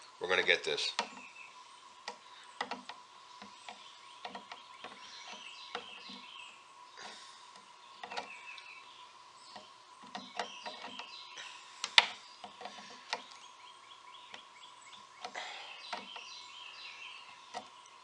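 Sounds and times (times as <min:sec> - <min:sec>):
birds chirping: 0:00.0 - 0:18.0
faint steady hum: 0:00.0 - 0:18.0.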